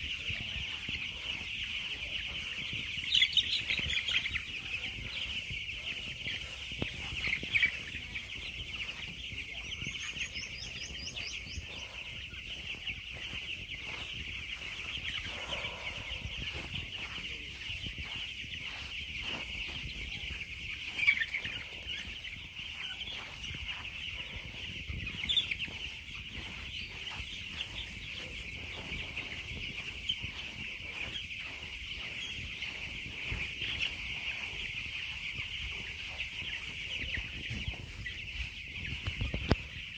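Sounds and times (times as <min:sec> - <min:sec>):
flock of chickens chattering: 0:00.0 - 0:39.9.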